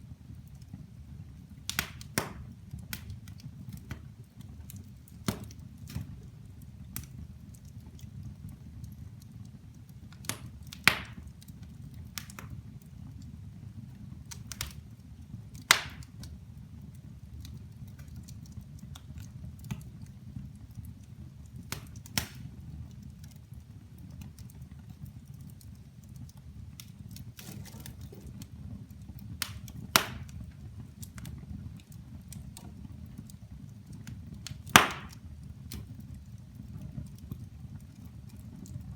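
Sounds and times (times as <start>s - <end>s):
fire flames rumbling: 0.0s - 38.9s
logs crackling and popping: 0.0s - 38.9s.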